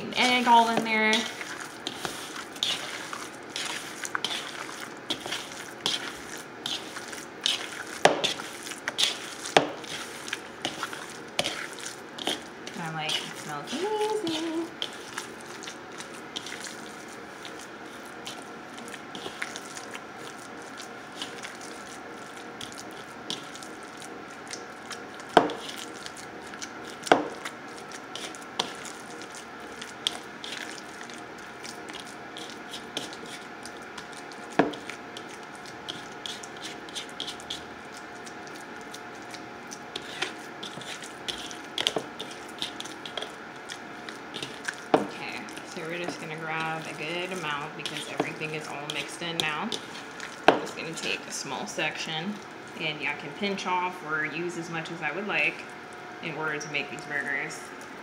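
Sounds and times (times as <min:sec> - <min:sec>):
hands kneading ground meat: 0:00.0 - 0:53.8.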